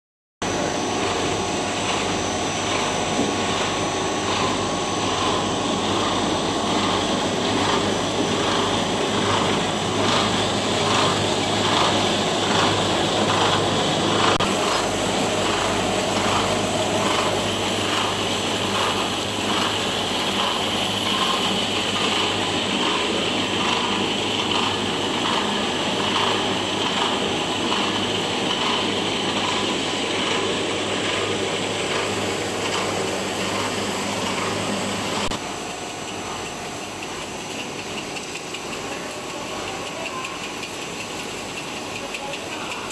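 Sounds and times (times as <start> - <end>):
machine noise with low hum: 0.4 - 42.9
regular pulsing machine beat: 0.9 - 42.9.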